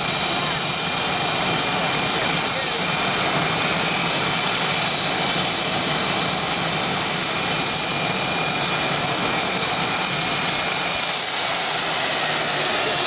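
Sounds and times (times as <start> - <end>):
jet engines roaring and whining: 0.0 - 13.0.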